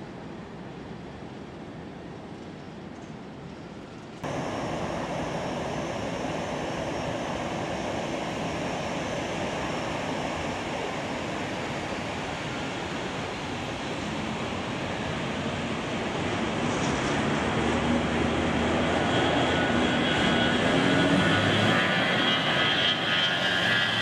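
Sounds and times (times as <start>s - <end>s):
jet engines running: 4.2s - 24.0s.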